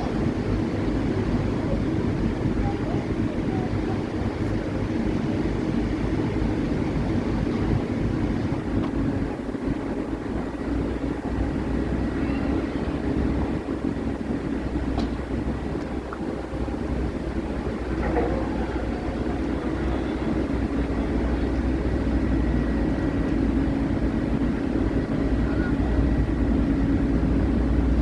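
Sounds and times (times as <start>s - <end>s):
ferry engines droning: 0.0s - 28.0s.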